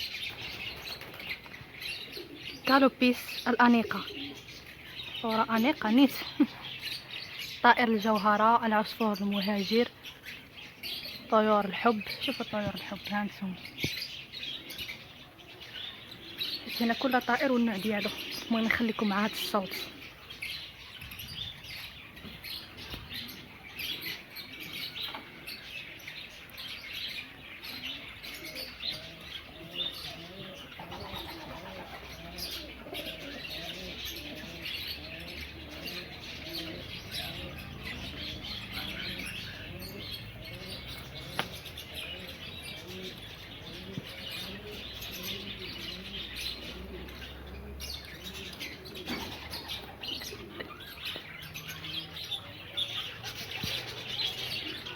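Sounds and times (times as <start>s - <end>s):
doves cooing: 0.0s - 54.9s
small birds chirping: 0.0s - 54.9s.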